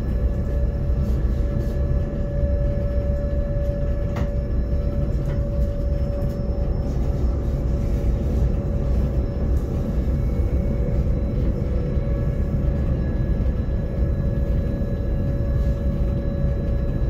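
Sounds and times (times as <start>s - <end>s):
constant whine: 0.0s - 17.0s
train rumble: 0.0s - 17.0s.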